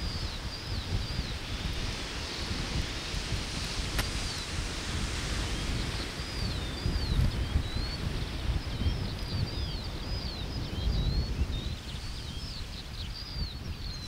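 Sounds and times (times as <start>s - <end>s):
songbird singing whistled notes: 0.0s - 2.6s, 4.0s - 4.6s, 5.4s - 14.0s
wind rumble on microphone: 0.0s - 14.0s.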